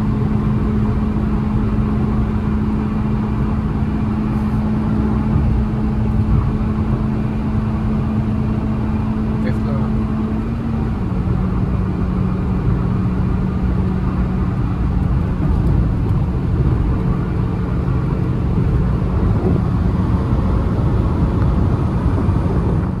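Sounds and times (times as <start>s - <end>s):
car engine droning: 0.0s - 23.0s
road and wind noise: 0.0s - 23.0s.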